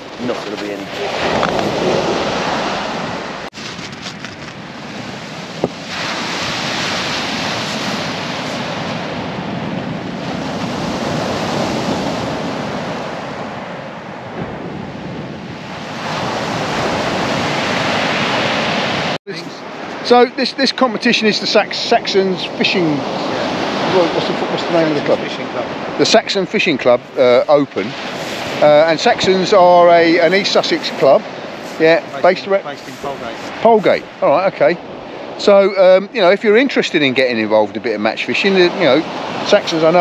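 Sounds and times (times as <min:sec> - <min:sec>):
surf breaking on shingle beach: 0:00.0 - 0:35.7.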